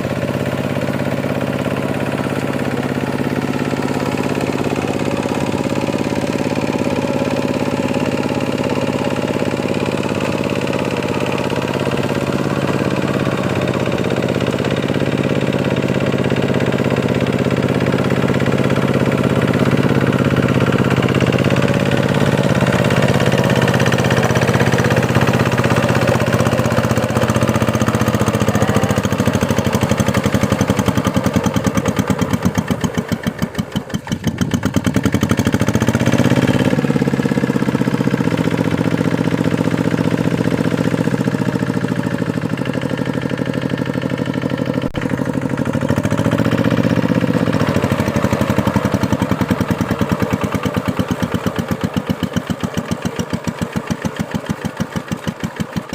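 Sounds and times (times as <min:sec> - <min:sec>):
diesel tractor engine running: 0:00.0 - 0:55.9.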